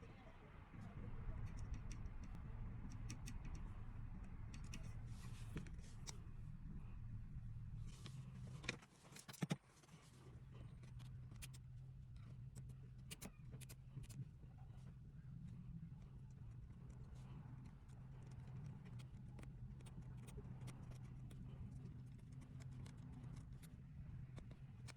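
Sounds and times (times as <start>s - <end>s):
low steady hum: 0.0s - 8.9s, 10.0s - 24.9s.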